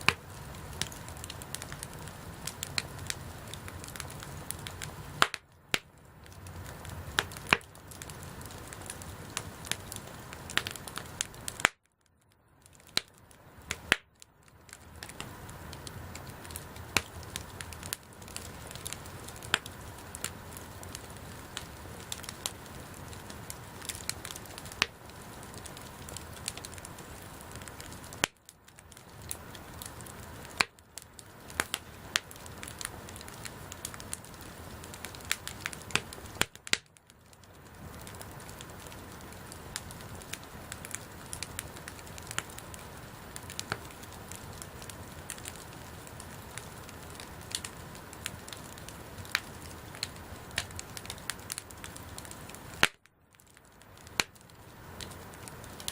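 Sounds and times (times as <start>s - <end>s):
campfire crackling and popping: 0.0s - 55.9s.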